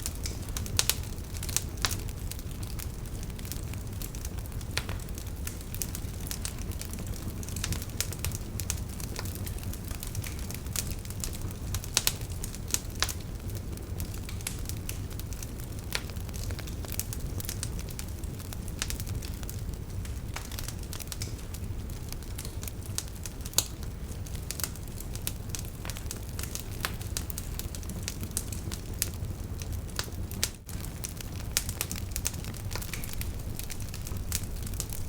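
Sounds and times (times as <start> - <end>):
fire crackling and popping: 0.0 - 35.0
fire rumbling: 0.0 - 35.0.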